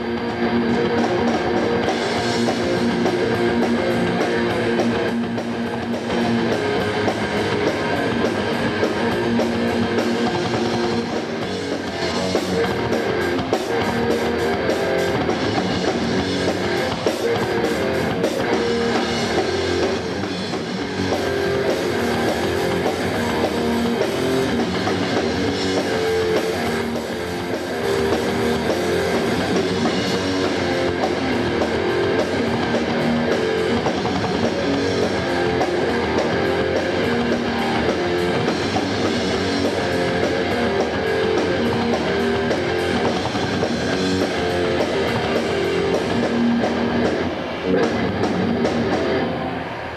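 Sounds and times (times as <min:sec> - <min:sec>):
bass guitar: 0:00.0 - 0:49.9
drum kit: 0:00.0 - 0:49.9
electric guitars: 0:00.0 - 0:49.9
rock band playing live: 0:00.0 - 0:49.9.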